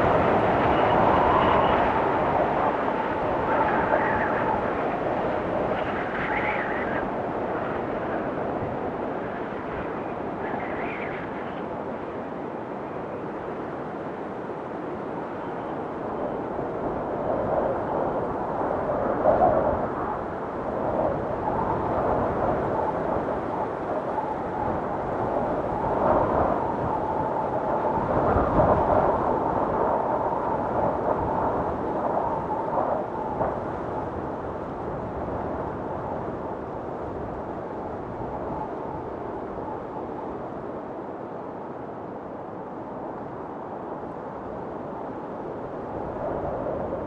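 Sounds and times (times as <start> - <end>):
snowstorm wind blowing hard: 0.0 - 47.0.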